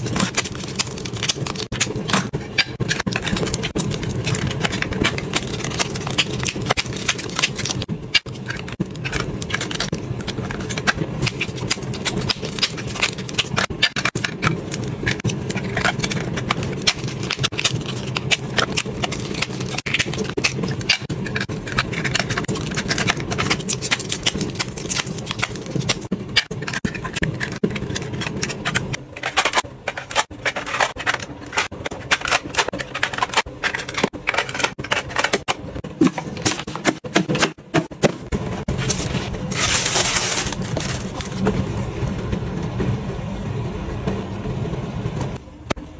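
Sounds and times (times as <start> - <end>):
plastic packaging crinkling and clicking: 0.0 - 37.5, 38.7 - 41.6.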